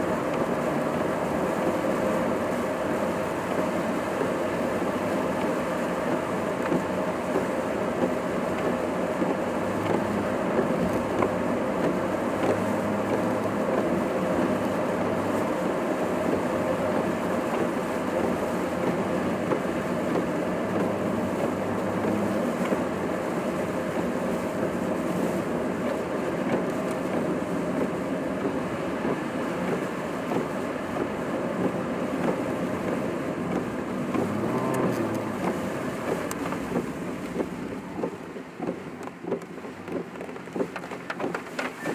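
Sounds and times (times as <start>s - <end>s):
car road and engine noise: 0.0s - 41.9s.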